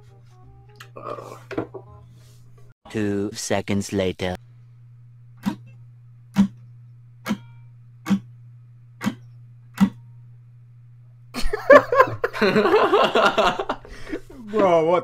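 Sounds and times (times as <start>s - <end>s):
steady low hum: 0.3s - 15.0s.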